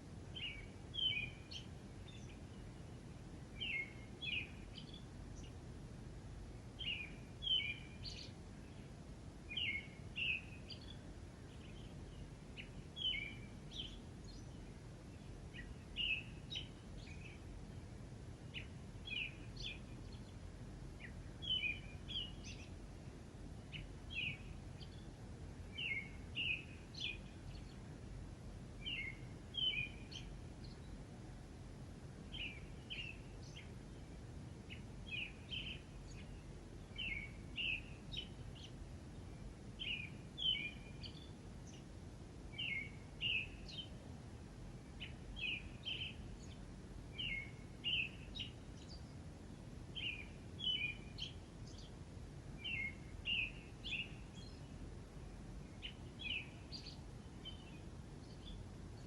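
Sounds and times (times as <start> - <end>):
low background hiss: 0.0 - 59.0
songbirds chirping: 0.0 - 59.0.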